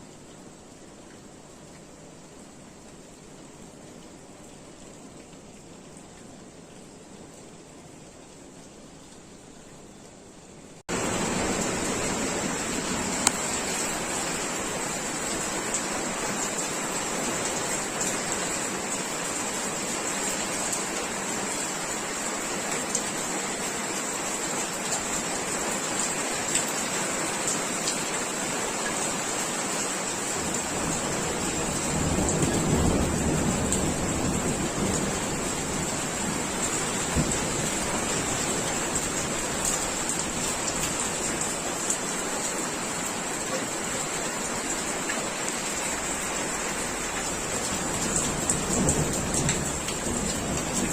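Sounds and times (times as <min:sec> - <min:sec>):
rain shower falling: 0:00.0 - 0:50.9.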